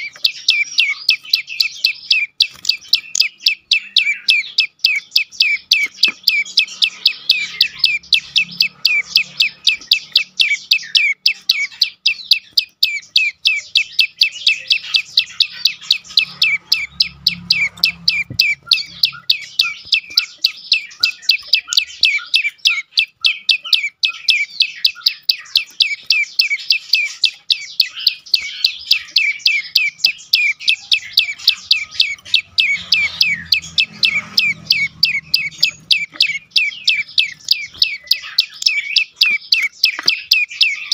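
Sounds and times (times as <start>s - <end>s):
bird sharp high chirps: 0.0s - 40.9s.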